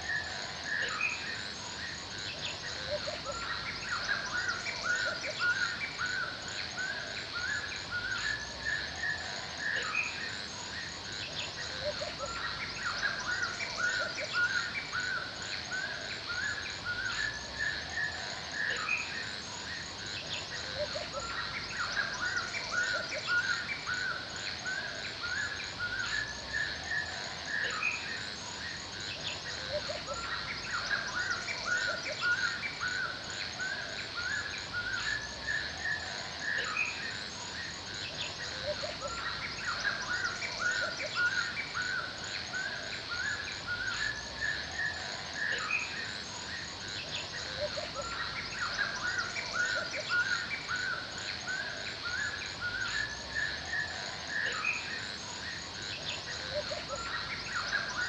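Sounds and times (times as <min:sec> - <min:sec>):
insect drone: 0:00.0 - 0:58.0
many birds chirping: 0:00.0 - 0:58.0.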